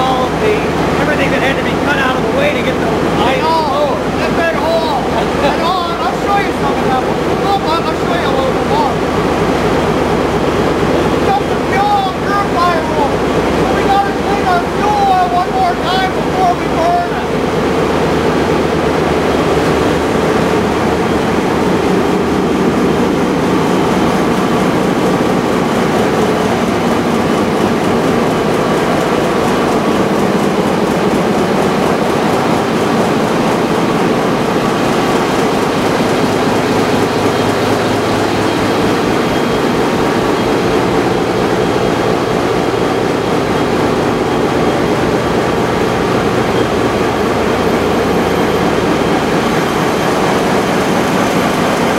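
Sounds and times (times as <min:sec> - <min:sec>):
machinery clatter: 0:00.0 - 0:51.9
ship diesel engine hum: 0:00.0 - 0:51.9.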